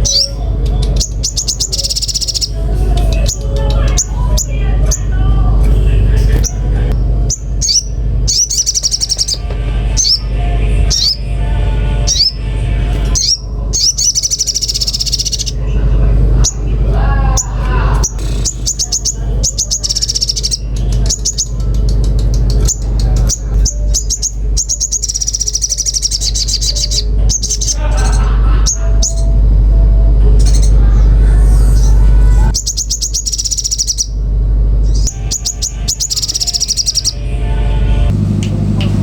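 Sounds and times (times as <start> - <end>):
bird trilling and chattering: 0.0 - 37.6.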